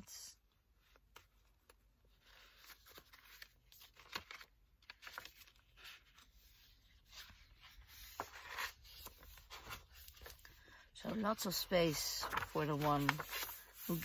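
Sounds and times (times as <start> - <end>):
paper and card rustling: 0.8 - 14.0.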